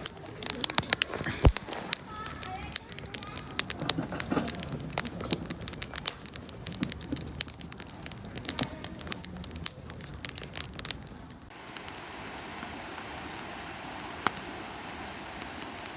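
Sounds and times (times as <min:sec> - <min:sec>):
campfire crackling and popping: 0:00.0 - 0:15.9
low rumble of flames: 0:00.0 - 0:15.9
steady hiss: 0:00.0 - 0:15.9.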